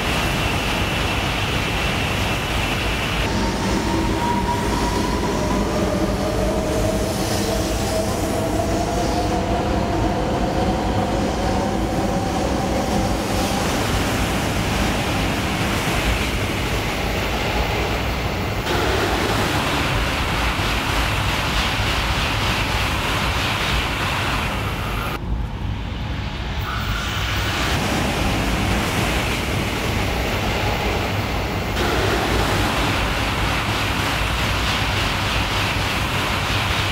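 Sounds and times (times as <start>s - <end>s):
train rumbling inside carriage: 0.0s - 36.9s.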